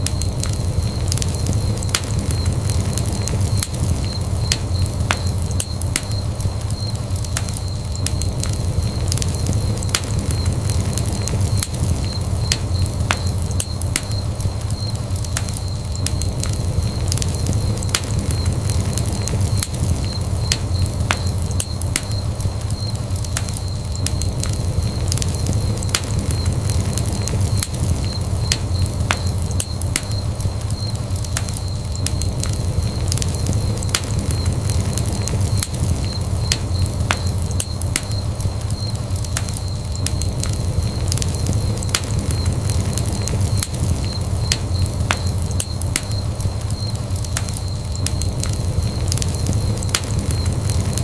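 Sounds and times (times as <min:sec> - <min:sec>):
low rumble of flames: 0:00.0 - 0:51.0
wood fire crackling and popping: 0:00.0 - 0:51.0.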